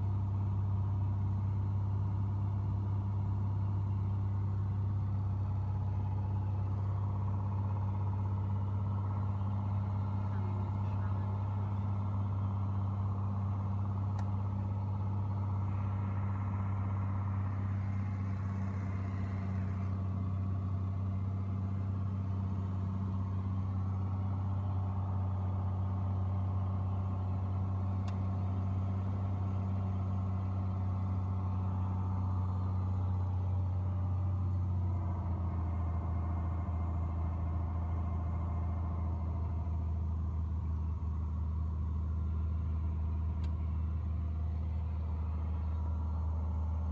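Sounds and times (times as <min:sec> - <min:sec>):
airplane engine and propeller in cabin: 0:00.0 - 0:46.9.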